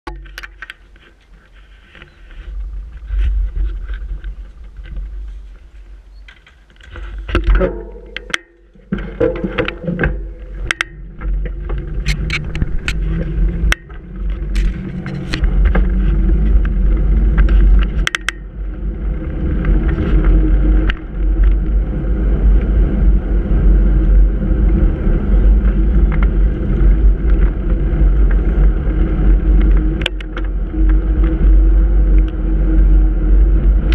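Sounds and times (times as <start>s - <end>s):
bicycle rattling over brick paving: 0.1s - 33.9s
wind and road noise: 0.1s - 33.9s.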